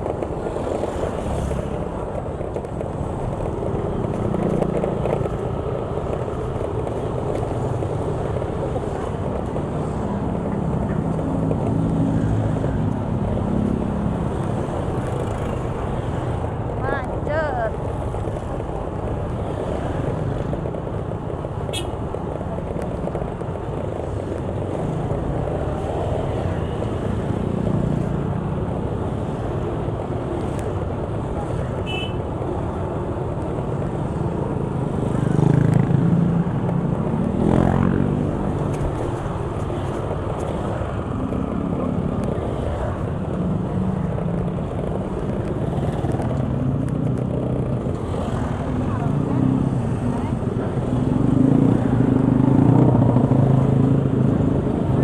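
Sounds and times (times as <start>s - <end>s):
traffic engines and road noise: 0.0s - 55.0s.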